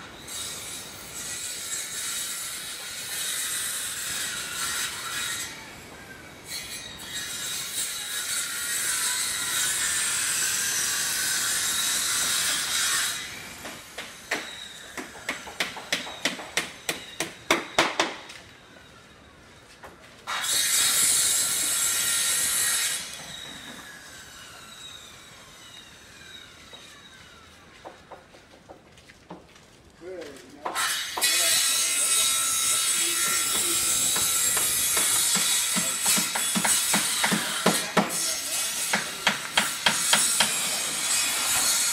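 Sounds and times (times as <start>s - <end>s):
power saw cutting: 0.2s - 19.0s, 20.2s - 28.2s, 30.6s - 41.9s.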